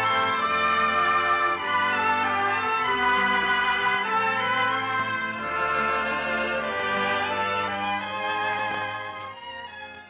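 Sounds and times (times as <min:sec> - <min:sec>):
orchestral held chords: 0:00.0 - 0:09.9.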